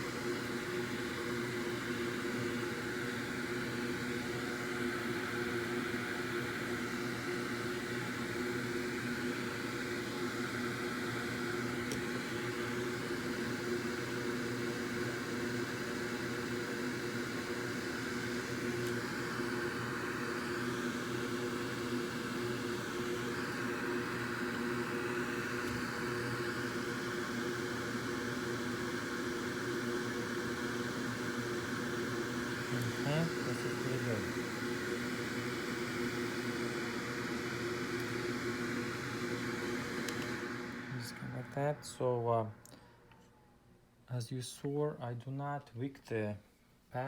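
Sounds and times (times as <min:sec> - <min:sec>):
electric fan whirring: 0:00.0 - 0:43.8.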